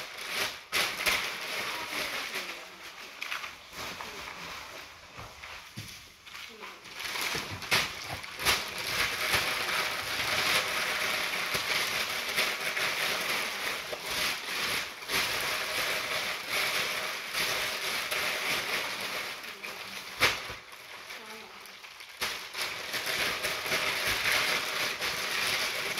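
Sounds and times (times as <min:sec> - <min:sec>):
packing paper crinkling: 0:00.0 - 0:25.9.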